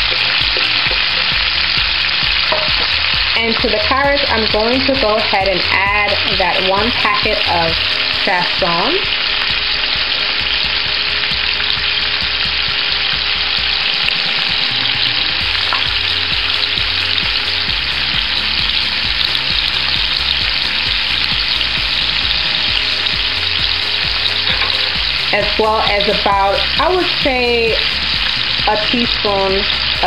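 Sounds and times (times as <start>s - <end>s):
vegetables sizzling in skillet: 0.0s - 30.0s.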